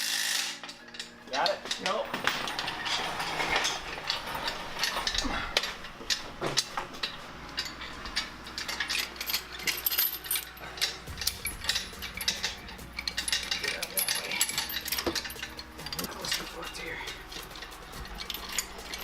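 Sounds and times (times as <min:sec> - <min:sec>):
hand tools clinking on bolts: 0:00.6 - 0:19.0.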